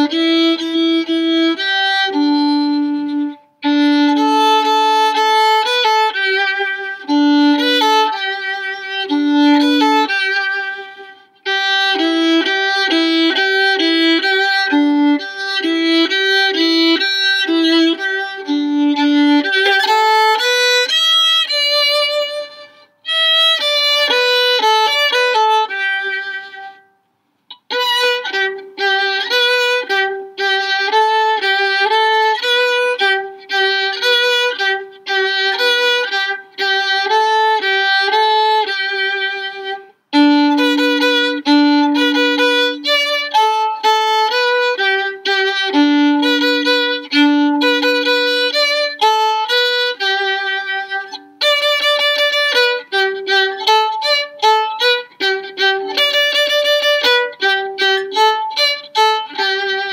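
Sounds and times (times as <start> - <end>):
violin melody: 0.0 - 59.9.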